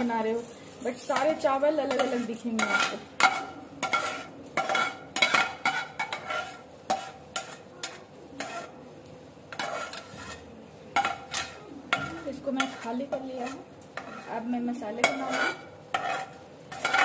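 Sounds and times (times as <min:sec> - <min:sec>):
metal spatula scraping a pot: 0:00.0 - 0:08.8, 0:09.5 - 0:17.0.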